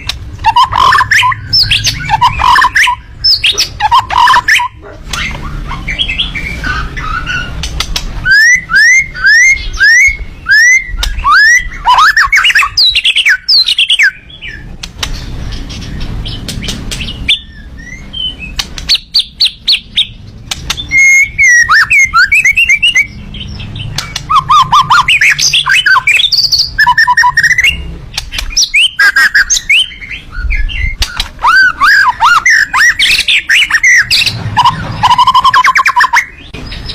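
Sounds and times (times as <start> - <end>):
songbird singing chirps and whistles: 0.0 - 36.9.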